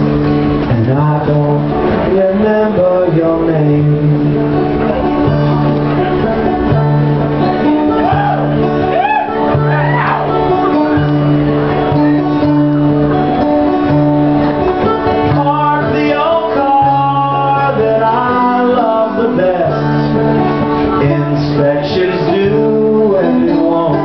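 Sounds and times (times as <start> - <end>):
held bass line: 0.0 - 24.0
sliding melodic instrument line: 0.0 - 24.0
strummed acoustic guitar: 0.0 - 24.0.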